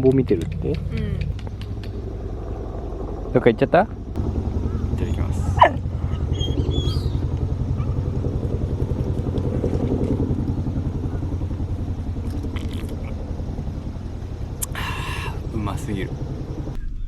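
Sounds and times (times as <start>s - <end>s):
engine running steadily: 0.0s - 16.8s.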